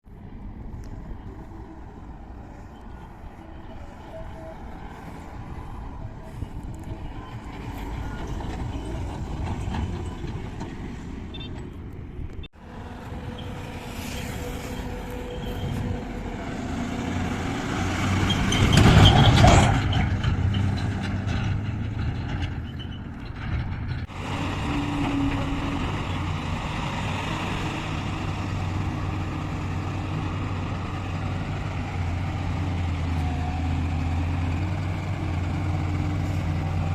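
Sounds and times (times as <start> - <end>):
diesel engines running: 0.1 - 36.9.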